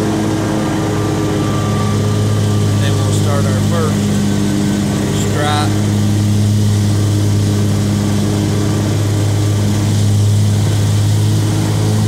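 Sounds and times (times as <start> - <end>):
riding mower engine droning: 0.0 - 12.0.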